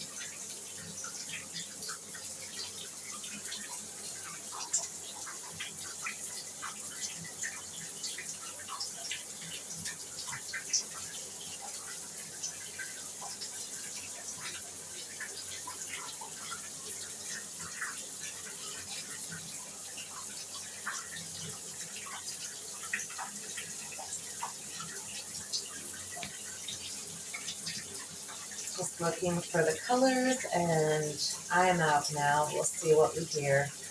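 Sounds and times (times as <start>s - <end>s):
shower water running: 0.0s - 33.9s
water splashes and drips: 0.0s - 33.9s.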